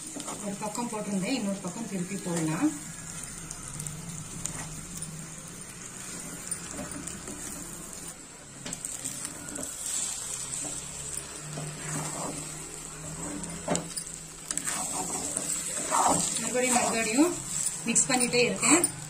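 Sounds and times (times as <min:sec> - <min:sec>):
food sizzling in a pan: 0:00.0 - 0:19.0
steel spoon scraping a pan: 0:02.3 - 0:08.2, 0:08.8 - 0:19.0.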